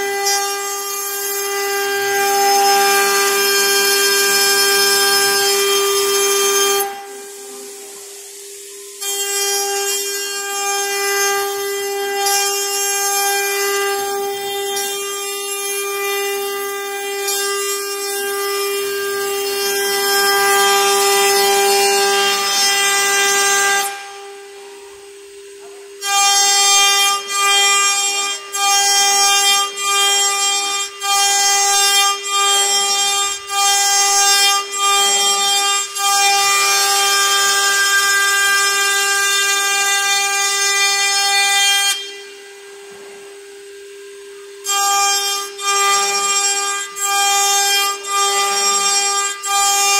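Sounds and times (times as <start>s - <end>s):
cutter milling metal: 0.0s - 49.9s
router spindle whining: 0.0s - 49.9s.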